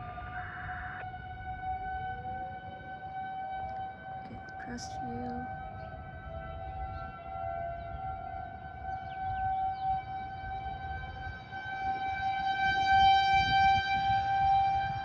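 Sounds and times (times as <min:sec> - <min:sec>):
warning sirens steady tone: 0:00.0 - 0:15.0.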